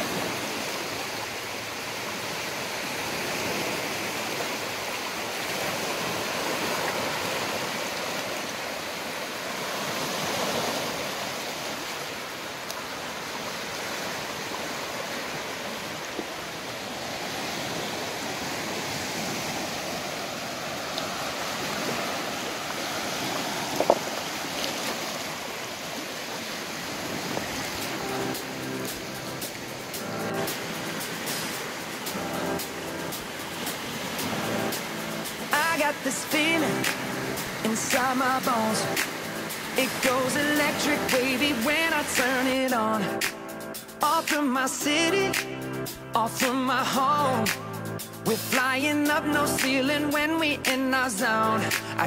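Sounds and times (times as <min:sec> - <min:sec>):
small waves lapping on rocky shore: 0:00.0 - 0:43.4.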